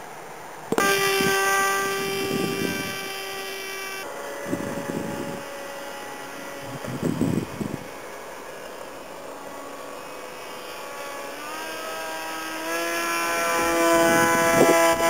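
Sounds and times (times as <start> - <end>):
model plane motor whining: 0.7 - 15.0.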